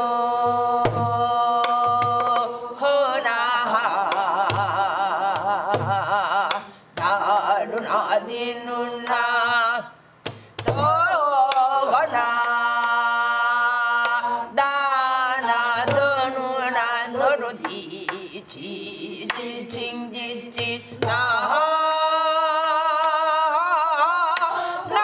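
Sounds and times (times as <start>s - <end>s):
person singing wordless melody: 0.0s - 25.0s.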